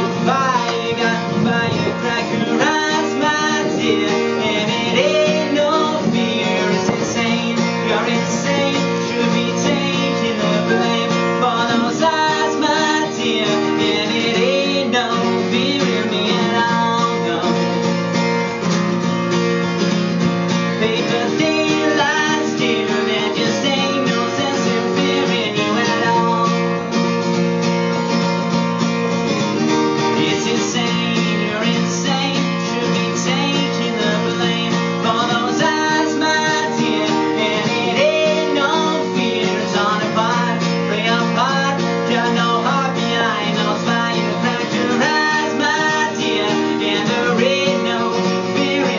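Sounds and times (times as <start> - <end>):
acoustic guitar strumming chords: 0.0 - 48.9.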